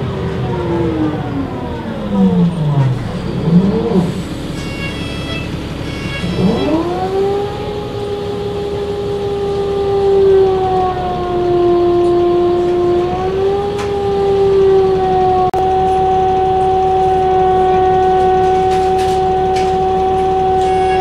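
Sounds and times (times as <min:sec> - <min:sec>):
bus gearbox whine: 0:01.2 - 0:21.0.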